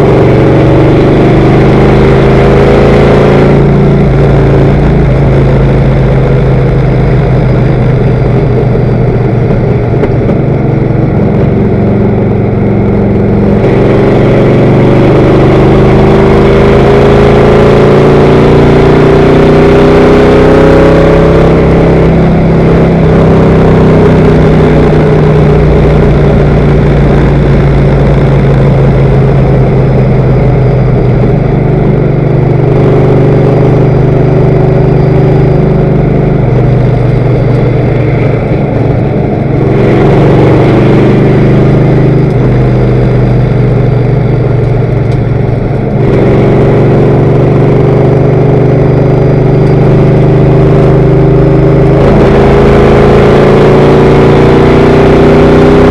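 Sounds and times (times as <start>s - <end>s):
racing car engine: 0.0s - 55.9s
wind and road noise: 0.0s - 55.9s.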